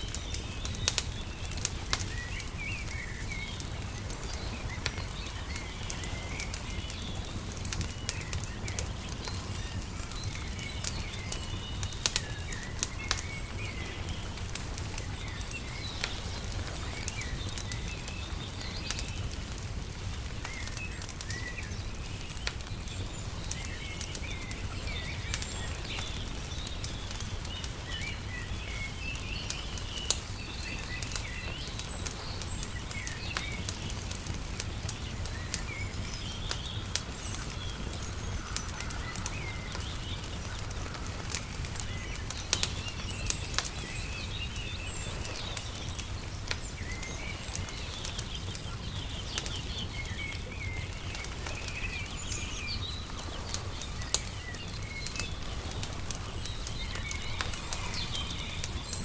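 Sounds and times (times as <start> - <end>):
small birds chirping: 0.0 - 59.0
wood fire crackling and popping: 0.0 - 59.0.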